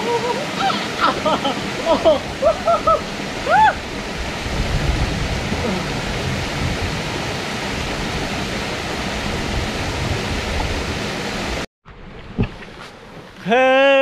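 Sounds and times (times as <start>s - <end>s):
waterfall rushing into pool: 0.0s - 11.7s.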